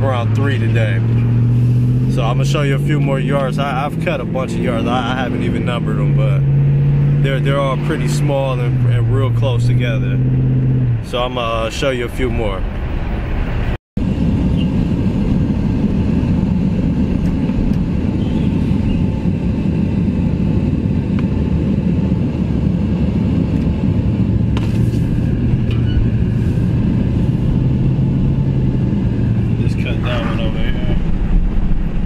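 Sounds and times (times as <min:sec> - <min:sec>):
engine and road rumble in cab: 0:00.0 - 0:32.0
low engine hum: 0:00.0 - 0:32.0.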